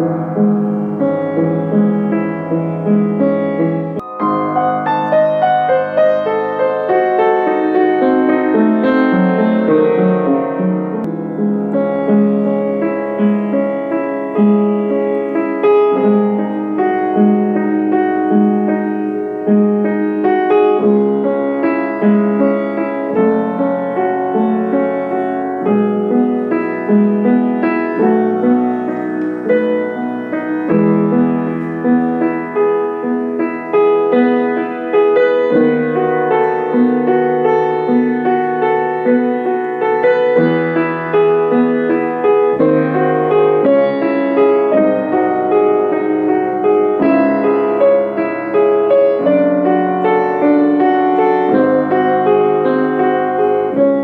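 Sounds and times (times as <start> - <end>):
slow piano piece: 0.0 - 54.0.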